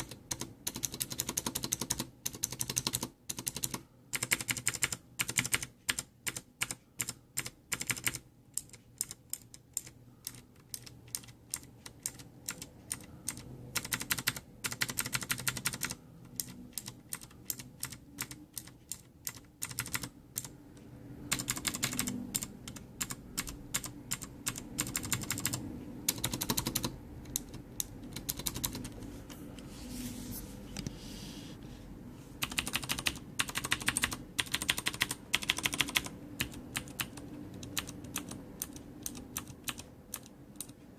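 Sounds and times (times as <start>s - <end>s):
mechanical keyboard keys clicking: 0.0s - 20.5s, 21.3s - 29.0s, 32.4s - 40.8s.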